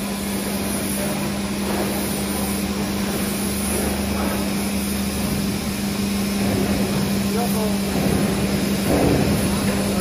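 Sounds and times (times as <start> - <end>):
mechanical hiss: 0.0 - 10.0
motor and hydraulic pump hum: 0.0 - 10.0.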